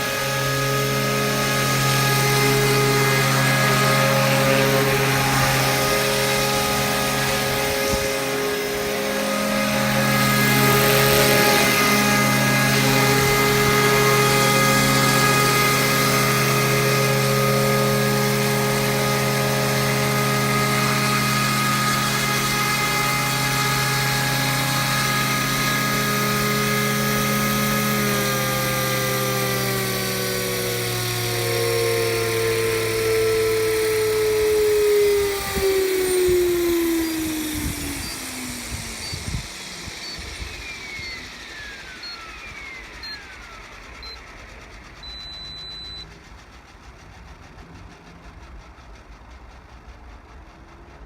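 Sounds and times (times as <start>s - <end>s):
model helicopter rotor whine: 0.0s - 51.0s.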